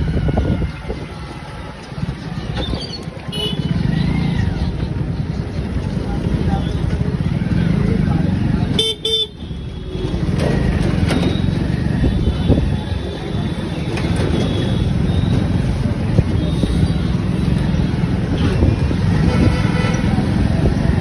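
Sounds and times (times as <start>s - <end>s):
road and traffic rumble: 0.0s - 21.0s.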